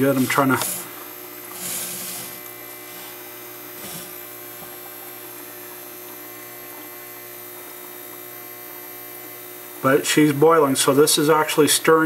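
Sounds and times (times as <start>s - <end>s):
electrical hum from inverter charger: 0.0s - 12.0s.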